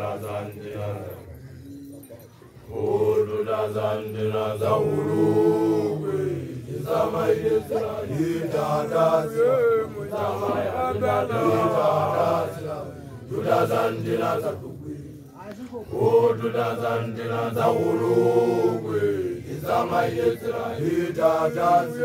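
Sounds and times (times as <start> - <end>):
men chanting: 0.0 - 1.4, 2.7 - 22.0.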